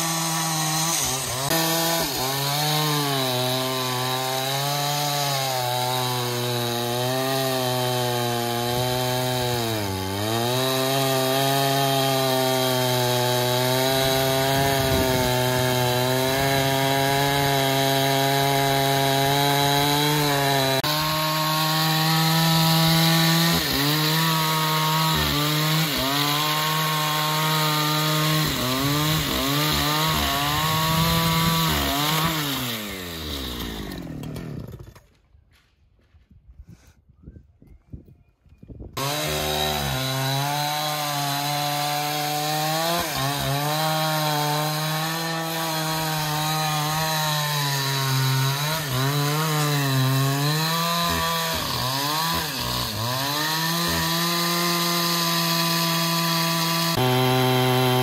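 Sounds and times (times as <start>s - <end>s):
chainsaw cutting wood: 0.0s - 35.2s, 39.0s - 58.0s.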